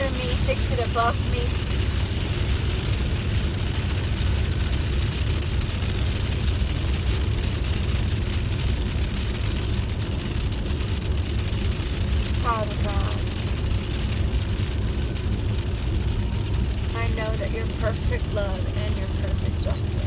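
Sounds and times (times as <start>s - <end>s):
car cabin rumble and hiss: 0.0s - 20.0s.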